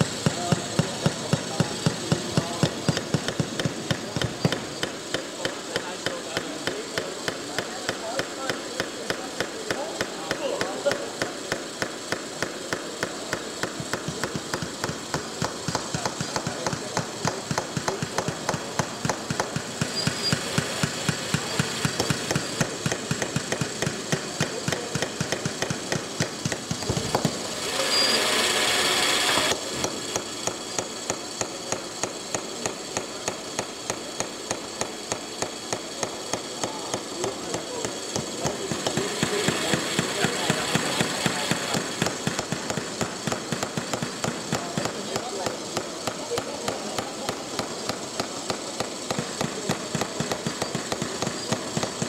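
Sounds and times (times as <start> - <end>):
loud hiss: 0.0 - 52.0.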